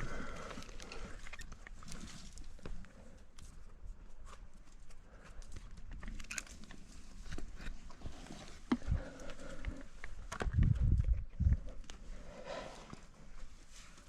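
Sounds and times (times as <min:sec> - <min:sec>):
climbing gear clicking on rock: 0:00.0 - 0:13.0.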